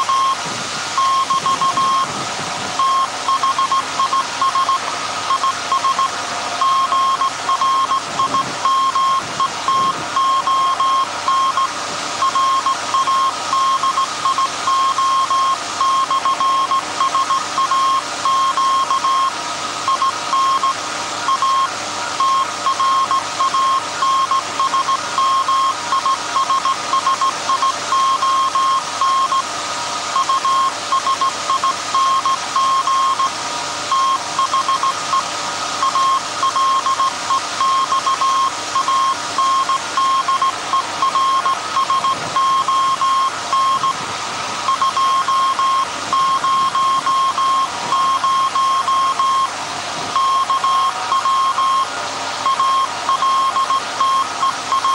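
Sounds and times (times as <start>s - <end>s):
morse code beeping: 0.0s - 0.4s, 1.0s - 2.2s, 2.8s - 29.5s, 30.2s - 33.3s, 33.9s - 44.0s, 44.7s - 49.5s, 50.2s - 54.9s
transmitter hum: 0.0s - 29.5s, 30.1s - 54.9s.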